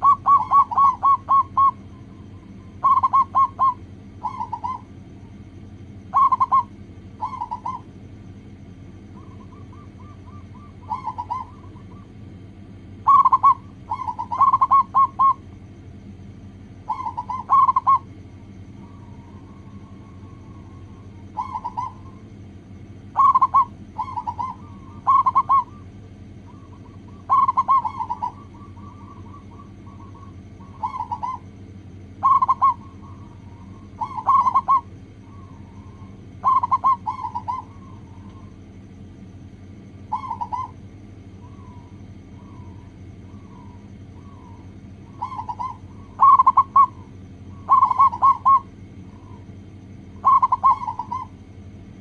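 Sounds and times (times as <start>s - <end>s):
dove cooing: 0.0s - 52.0s
steady low hum: 0.0s - 52.0s.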